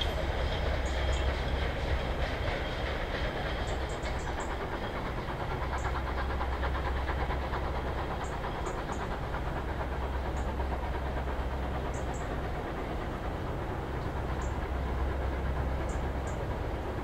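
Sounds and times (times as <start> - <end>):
steam train deep rumble: 0.0 - 17.0.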